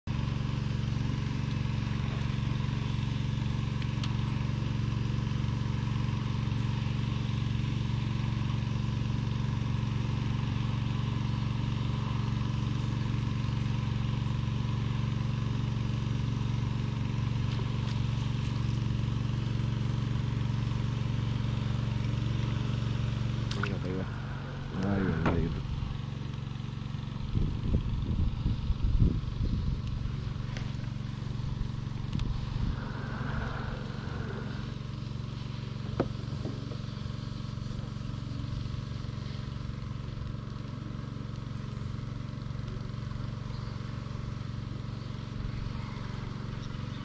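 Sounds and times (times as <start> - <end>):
low mechanical drone: 0.0 - 47.0.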